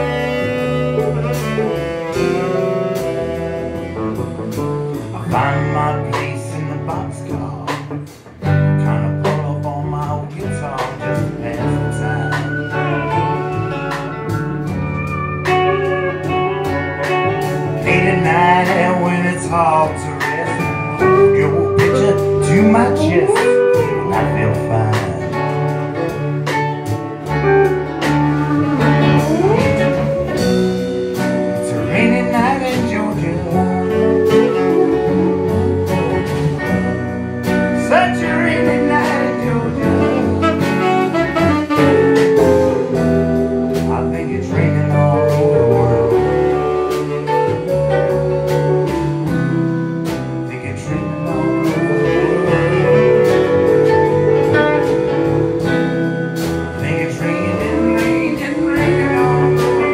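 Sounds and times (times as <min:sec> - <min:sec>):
drums: 0:00.0 - 0:59.9
electric guitars: 0:00.0 - 0:59.9
upright bass: 0:00.0 - 0:59.9
pedal steel guitar: 0:10.6 - 0:59.9.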